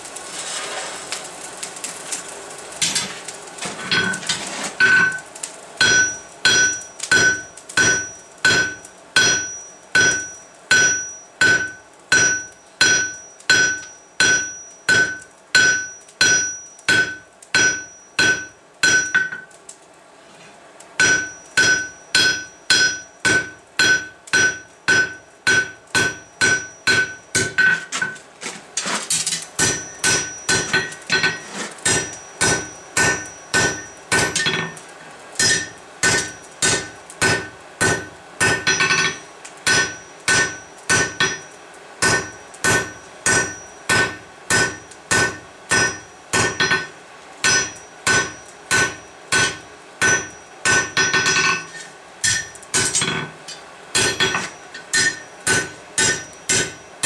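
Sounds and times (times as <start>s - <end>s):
hammer striking hot steel on anvil: 3.7s - 19.6s, 21.0s - 56.9s
anvil ringing: 5.8s - 19.5s, 21.0s - 28.2s, 29.6s - 34.8s, 35.4s - 56.8s.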